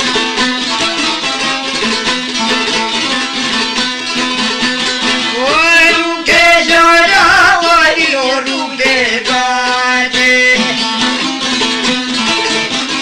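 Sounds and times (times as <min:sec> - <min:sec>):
man singing folk song: 0:00.0 - 0:13.0
plucked lute drone: 0:00.0 - 0:13.0.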